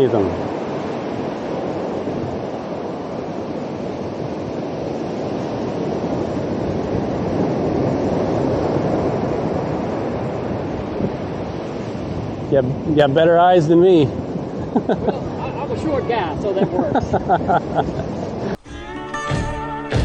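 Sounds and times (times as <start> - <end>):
ocean surf washing on beach: 0.0 - 18.6
wind on microphone: 0.0 - 18.6.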